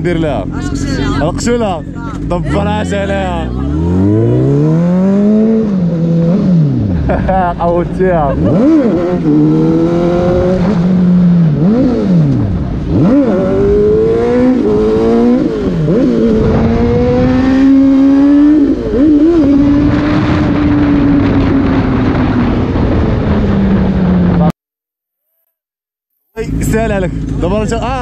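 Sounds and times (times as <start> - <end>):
motorcycle engine accelerating: 0.0 - 24.5, 26.4 - 28.0.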